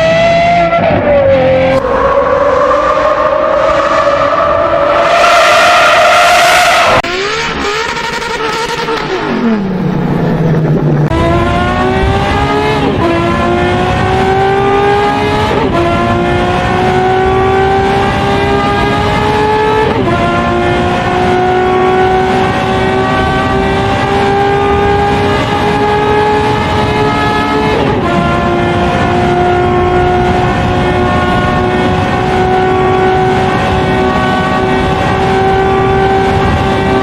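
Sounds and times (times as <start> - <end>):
car engine revving and accelerating: 0.0 - 37.0
quick gear upshifts: 0.0 - 37.0.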